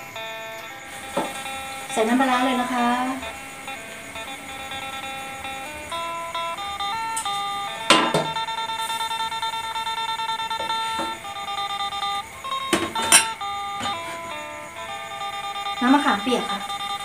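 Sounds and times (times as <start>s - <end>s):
chiming background melody: 0.0s - 17.0s.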